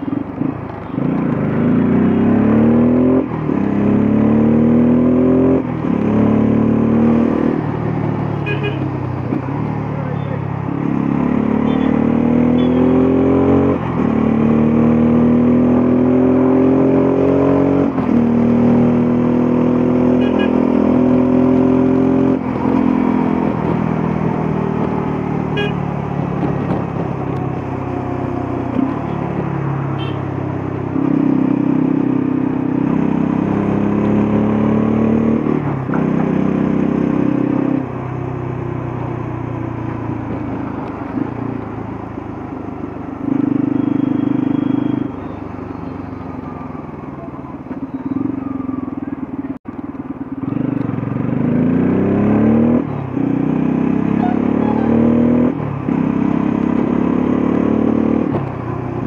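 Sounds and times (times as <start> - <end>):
motorcycle engine accelerating: 0.3 - 59.0.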